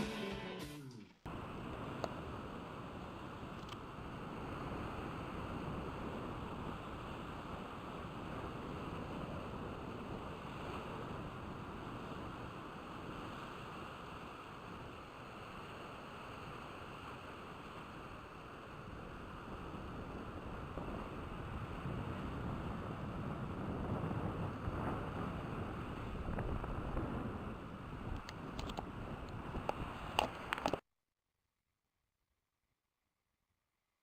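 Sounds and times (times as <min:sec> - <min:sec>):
wind noise on microphone: 0:01.3 - 0:30.8.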